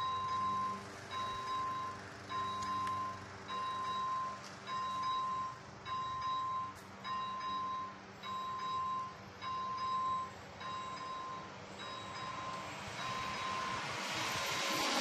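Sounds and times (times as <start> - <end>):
level-crossing bell tone: 0.0 - 15.0.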